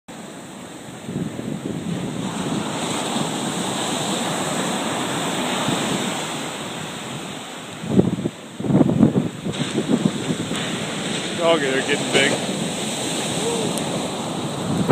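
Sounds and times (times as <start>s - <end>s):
sea surf rushing: 0.1s - 14.9s
wind buffeting the microphone: 0.2s - 14.9s.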